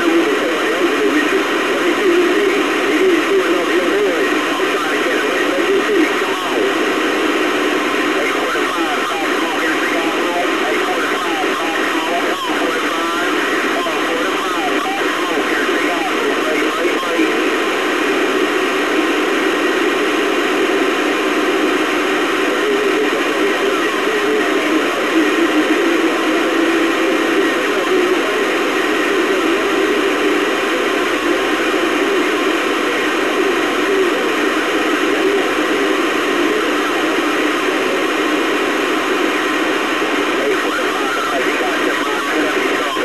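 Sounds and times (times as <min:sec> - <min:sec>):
radio static hiss: 0:00.0 - 0:43.0.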